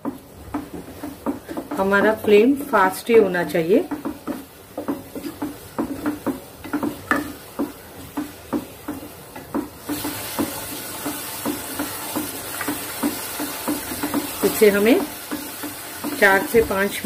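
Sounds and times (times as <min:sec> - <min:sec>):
food sizzling in pan: 0:00.0 - 0:17.0
wooden spatula scraping pan: 0:00.0 - 0:17.0.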